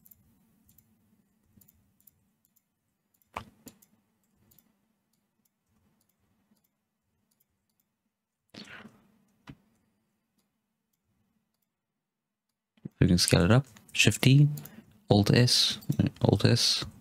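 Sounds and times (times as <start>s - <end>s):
keyboard and mouse clicks: 0.0s - 8.0s, 8.6s - 11.8s, 12.5s - 14.8s, 15.7s - 17.0s.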